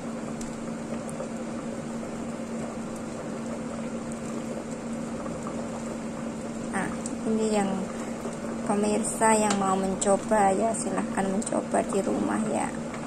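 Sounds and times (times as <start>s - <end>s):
constant low hum: 0.0s - 13.0s
soup boiling and bubbling: 0.0s - 13.0s.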